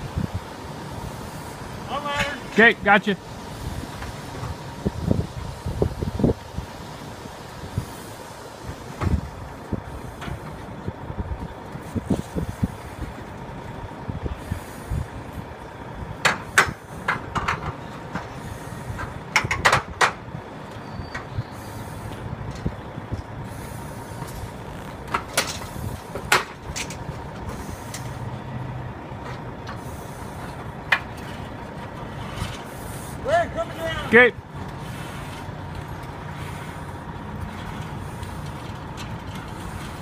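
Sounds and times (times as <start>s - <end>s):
low engine rumble: 0.0s - 40.0s.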